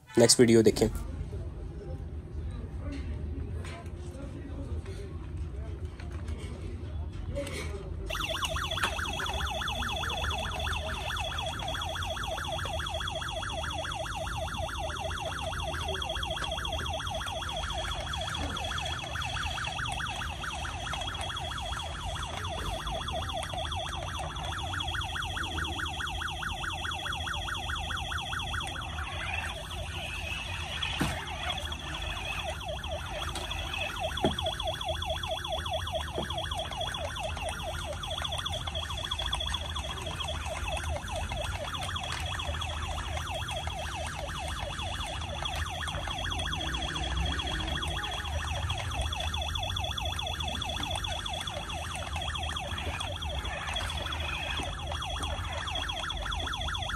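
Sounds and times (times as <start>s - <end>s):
toy siren warbling: 8.1s - 56.9s.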